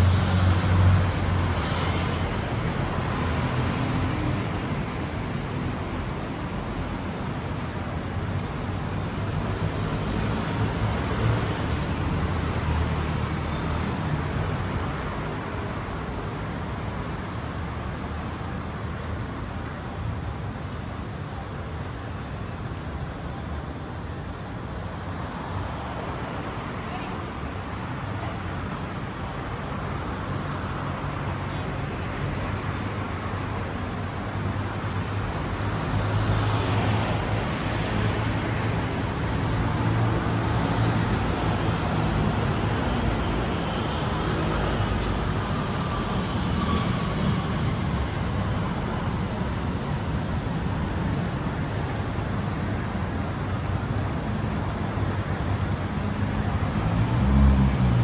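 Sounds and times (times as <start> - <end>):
road traffic rumble: 0.0 - 58.0
vehicles passing: 0.0 - 58.0.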